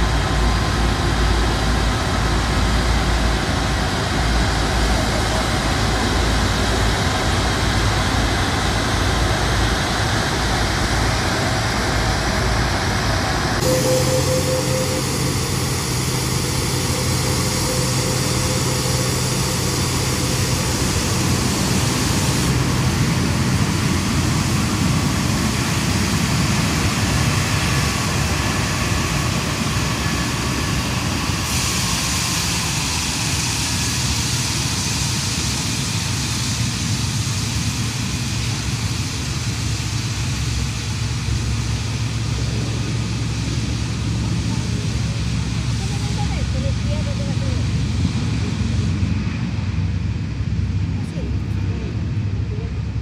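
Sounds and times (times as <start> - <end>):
jet engines taxiing: 0.0 - 53.0
low hum: 0.0 - 53.0.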